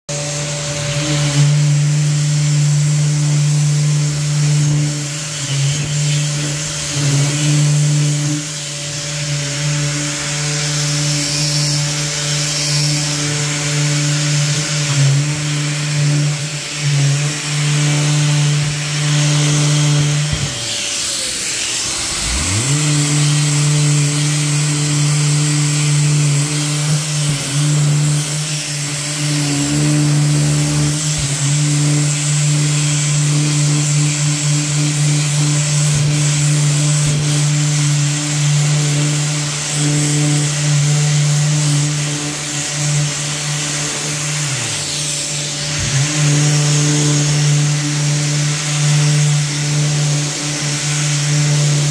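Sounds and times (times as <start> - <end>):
electric orbital sander humming: 0.1 - 51.9.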